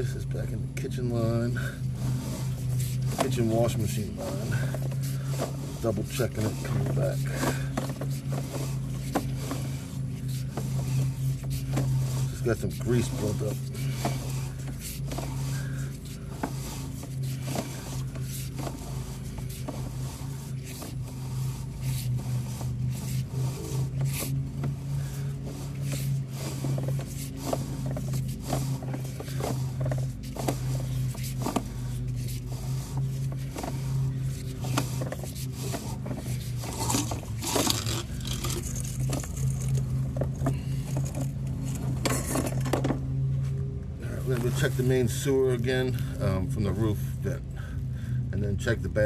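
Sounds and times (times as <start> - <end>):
steady low hum: 0.0 - 49.0
cable scraping in a drain: 1.6 - 42.9.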